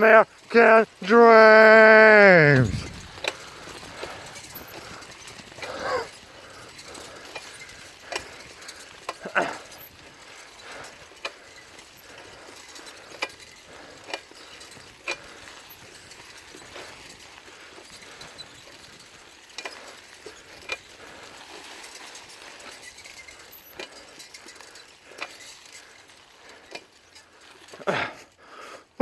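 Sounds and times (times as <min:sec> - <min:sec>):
bicycle clicking and rattling: 0:00.0 - 0:01.1, 0:02.8 - 0:29.0.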